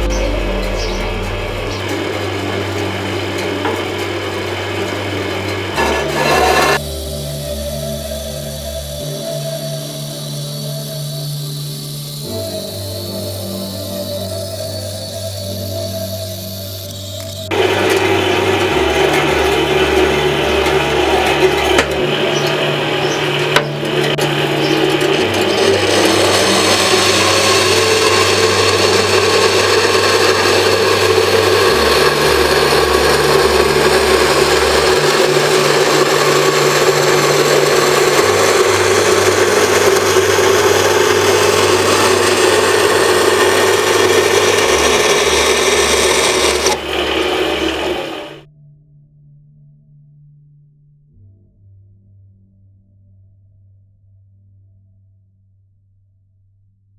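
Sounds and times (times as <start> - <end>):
bandsaw cutting metal: 0.0 - 48.4
low bass line: 0.0 - 55.5.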